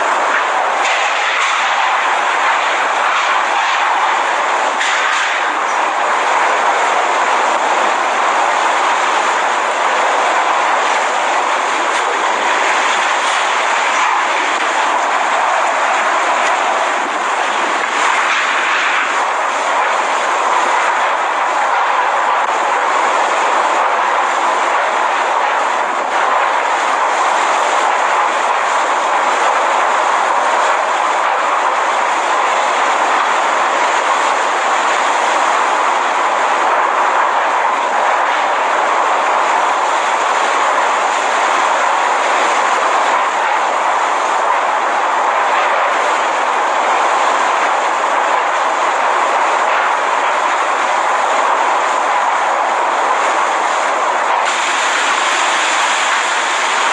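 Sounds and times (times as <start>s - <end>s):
strong wind rushing: 0.0s - 56.9s.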